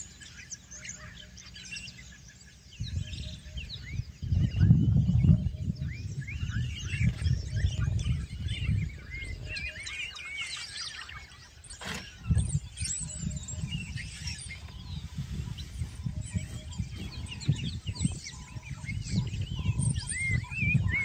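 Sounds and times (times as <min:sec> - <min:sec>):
birds chirping and squealing: 0:00.0 - 0:21.0.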